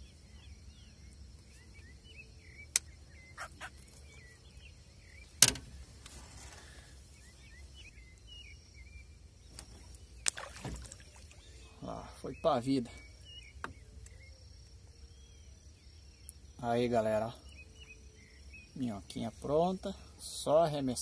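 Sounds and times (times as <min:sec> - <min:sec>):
faint birds chirping: 0:00.0 - 0:21.0
low outdoor background: 0:00.0 - 0:21.0.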